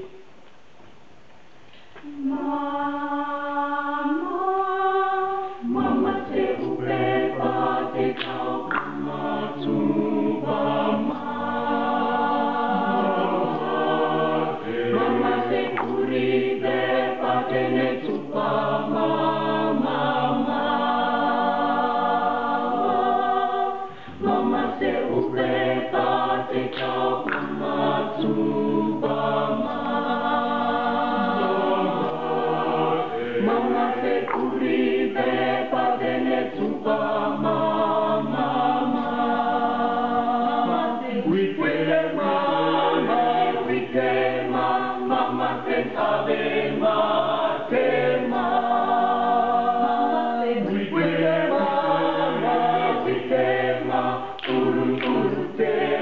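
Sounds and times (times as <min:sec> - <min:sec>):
choir singing in harmony: 0:02.0 - 0:56.0.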